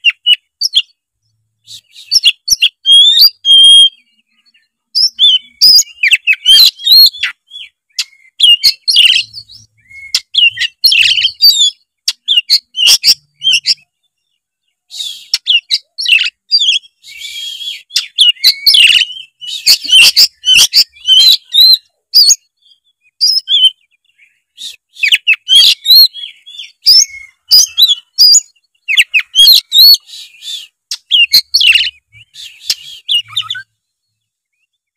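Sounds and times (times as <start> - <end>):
bird singing whistles and chirps: 0.0 - 34.9.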